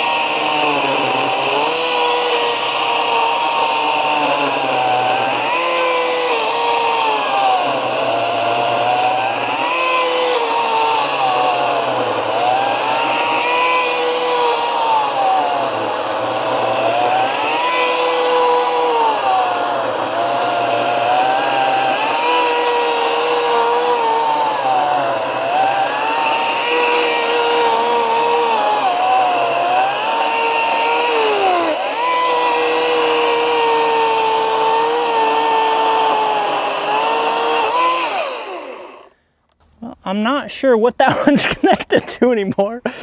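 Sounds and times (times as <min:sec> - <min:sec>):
electric chainsaw cutting wood: 0:00.0 - 0:39.2.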